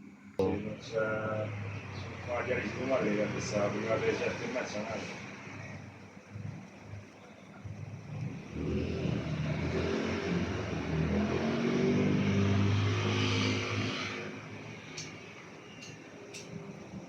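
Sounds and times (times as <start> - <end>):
vehicle engine passing by: 0.8 - 17.0.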